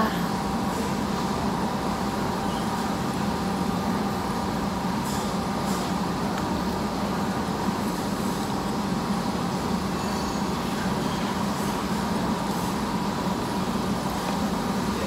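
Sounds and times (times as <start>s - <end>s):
mechanical hum and rumble: 0.0s - 15.0s.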